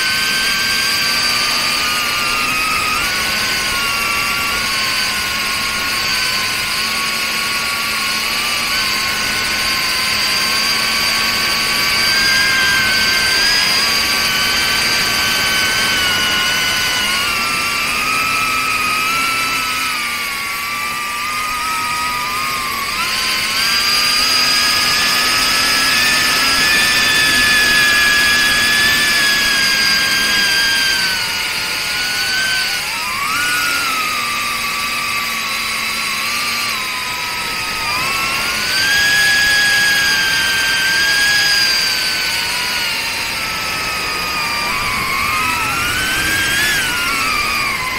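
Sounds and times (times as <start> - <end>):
drone motors whining: 0.0 - 47.9.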